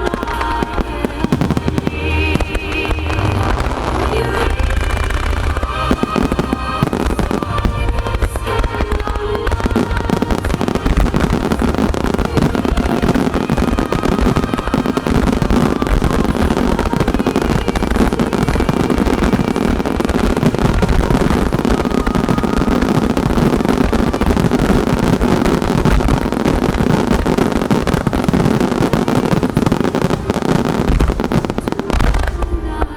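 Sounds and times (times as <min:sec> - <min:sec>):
fireworks bursting and crackling: 0:00.0 - 0:32.9
music over loudspeakers: 0:00.0 - 0:32.9.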